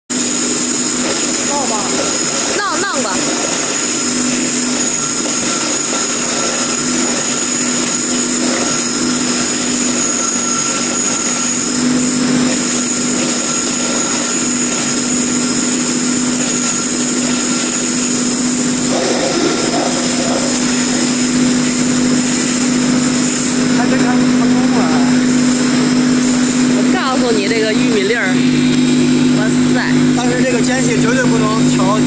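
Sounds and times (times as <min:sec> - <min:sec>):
grinding mill humming and whining: 0:00.1 - 0:32.0.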